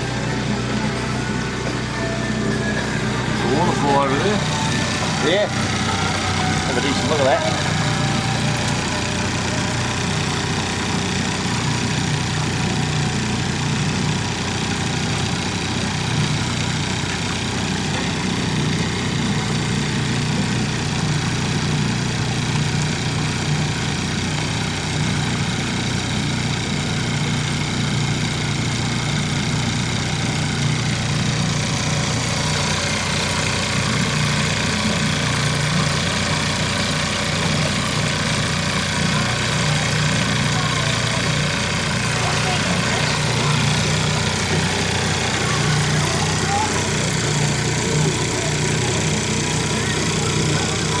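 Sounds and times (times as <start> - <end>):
boat motor humming: 0.0 - 51.0.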